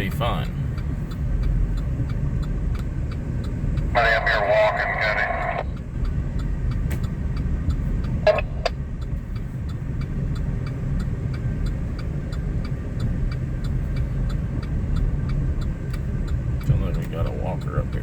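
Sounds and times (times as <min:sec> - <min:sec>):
vehicle cab rumble: 0:00.0 - 0:18.0.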